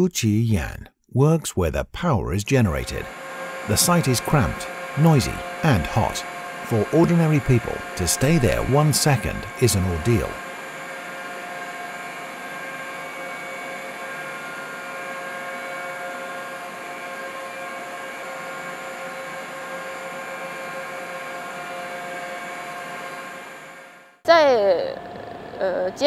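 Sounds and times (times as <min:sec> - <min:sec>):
steady whining tones: 0:02.7 - 0:26.0.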